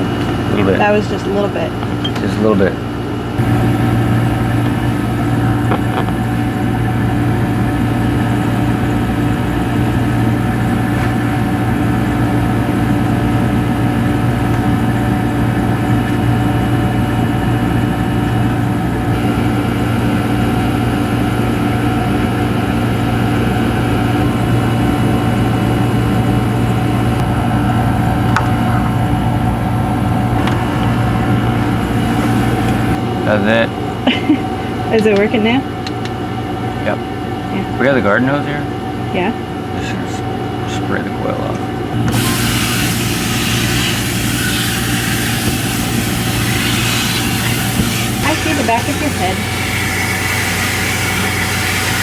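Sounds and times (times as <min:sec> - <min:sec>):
air conditioner humming: 0:00.0 - 0:52.0.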